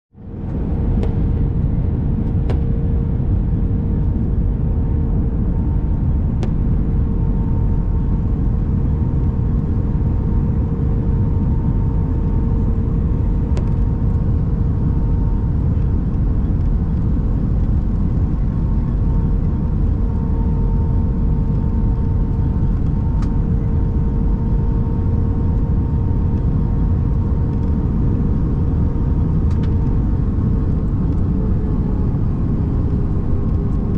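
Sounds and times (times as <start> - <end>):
constant hum: 0.1 - 33.9
engine and airflow rumble: 0.1 - 33.9.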